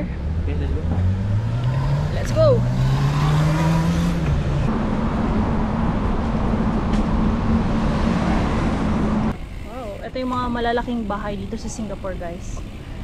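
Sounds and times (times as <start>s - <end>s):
bicycle road noise: 0.0s - 13.0s
engine hum: 0.0s - 13.0s.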